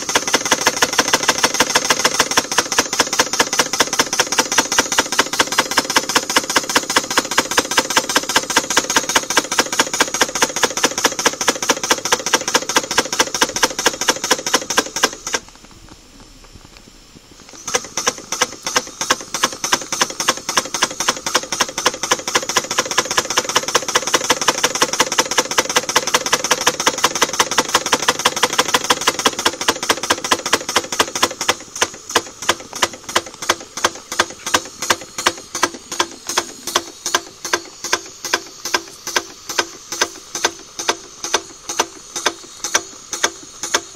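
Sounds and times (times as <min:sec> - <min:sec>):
rapid mechanical ticking: 0:00.0 - 0:16.0, 0:17.4 - 0:43.9.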